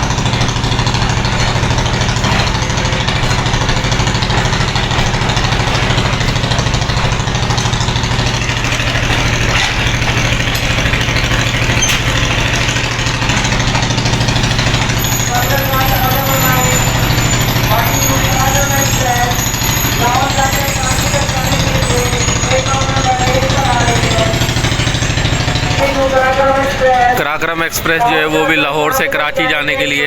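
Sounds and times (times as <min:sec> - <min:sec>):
locomotive engine idling: 0:00.0 - 0:30.0.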